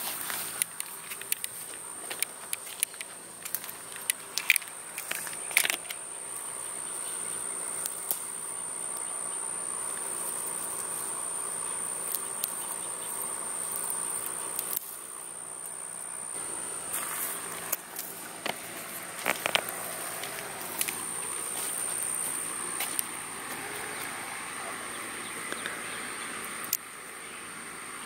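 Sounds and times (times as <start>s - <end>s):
high-pitched insect trill: 0.0s - 28.0s.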